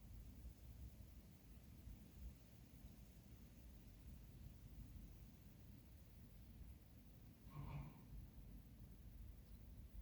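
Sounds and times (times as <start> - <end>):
faint low rumble with hiss: 0.0 - 10.0.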